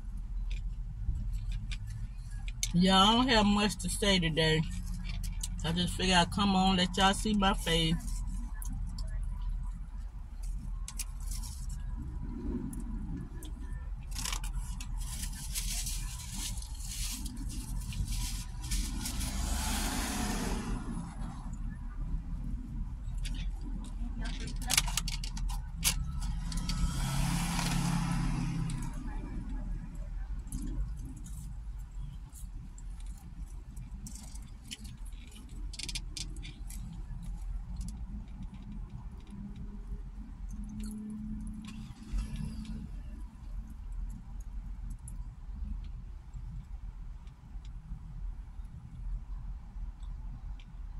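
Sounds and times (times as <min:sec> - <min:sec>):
low rumble inside car: 0:00.0 - 0:50.9.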